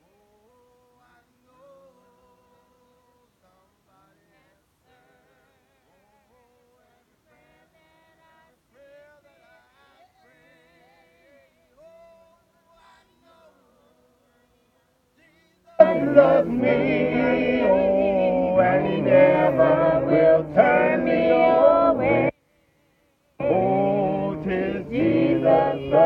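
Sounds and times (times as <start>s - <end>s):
voices singing a hymn: 0.0s - 26.0s.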